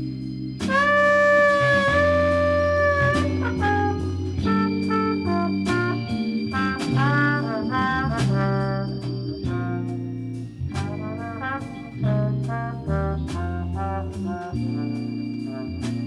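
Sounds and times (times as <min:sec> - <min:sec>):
brass section playing chords: 0:00.0 - 0:16.0
walking bass: 0:00.0 - 0:16.0.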